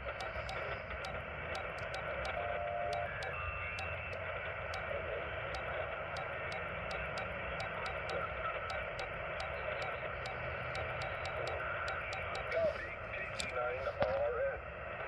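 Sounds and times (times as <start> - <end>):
sharp radio ticks: 0.0 - 13.6.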